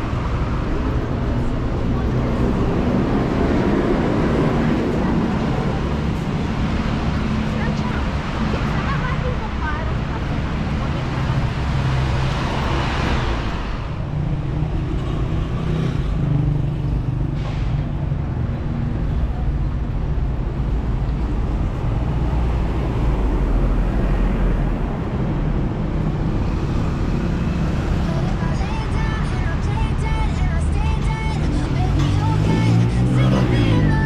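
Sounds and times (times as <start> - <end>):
bus passing by: 0.0 - 34.0
road noise: 0.0 - 34.0.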